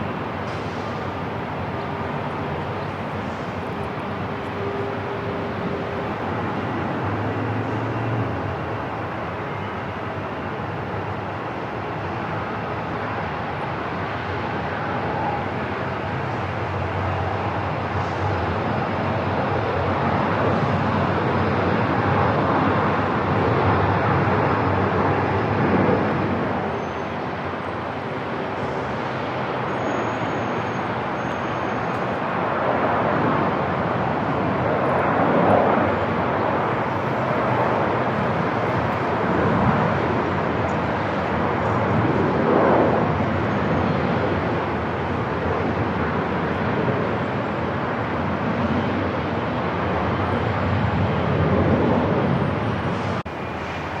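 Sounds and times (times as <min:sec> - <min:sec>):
aircraft engine roar: 0:00.0 - 0:54.0.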